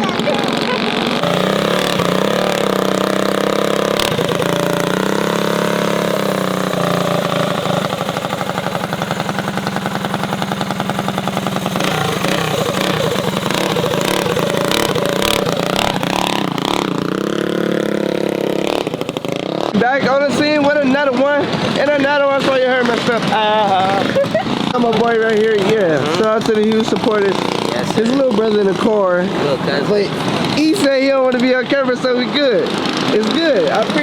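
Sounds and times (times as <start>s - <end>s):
mini bike engine running: 0.0s - 34.0s.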